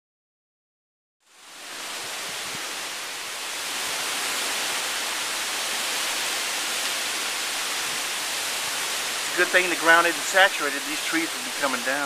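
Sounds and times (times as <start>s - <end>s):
rain falling: 1.2s - 12.0s.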